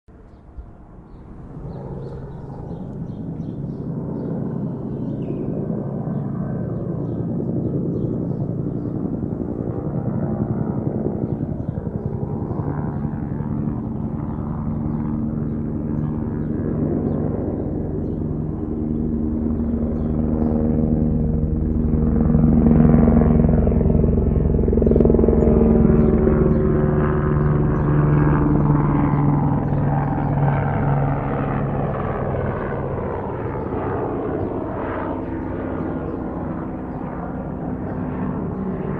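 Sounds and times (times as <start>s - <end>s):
helicopter rotor beating: 0.1s - 38.9s.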